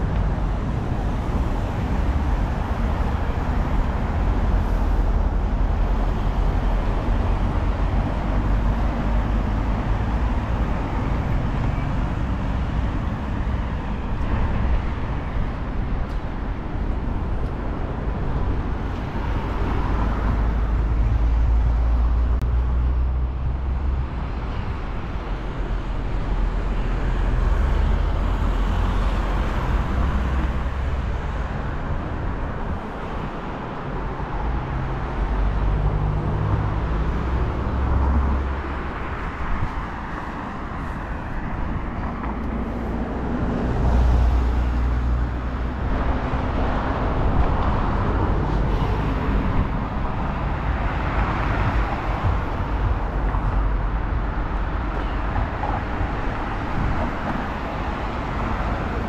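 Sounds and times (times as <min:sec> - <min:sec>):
passing cars rumbling: 0:00.0 - 0:59.0.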